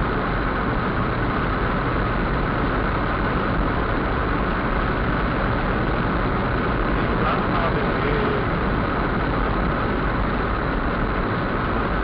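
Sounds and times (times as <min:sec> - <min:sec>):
car driving on highway: 0:00.0 - 0:12.0.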